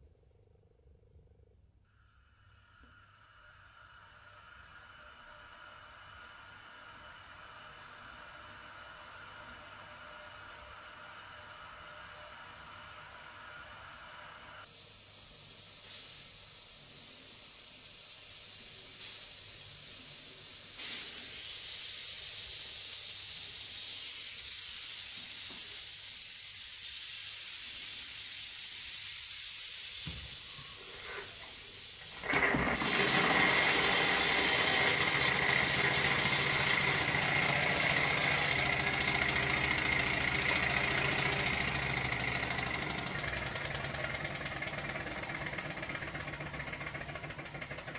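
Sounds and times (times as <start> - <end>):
steam hissing from valve: 1.9 - 47.9
model steam engine running: 2.4 - 14.6, 16.8 - 47.9.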